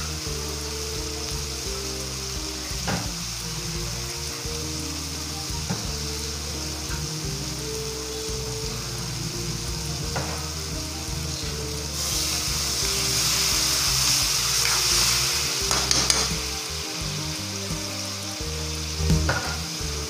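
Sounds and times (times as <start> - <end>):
loud hissing sizzle with steam: 0.0 - 20.0
vegetables sizzling in a wok: 0.0 - 20.0.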